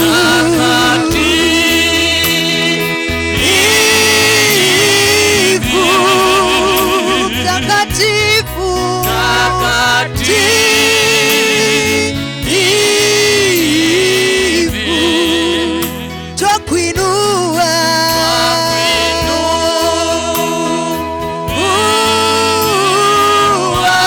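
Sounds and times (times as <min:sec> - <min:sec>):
gospel instrumental backing: 0:00.0 - 0:24.0
person singing with vibrato: 0:00.0 - 0:24.0.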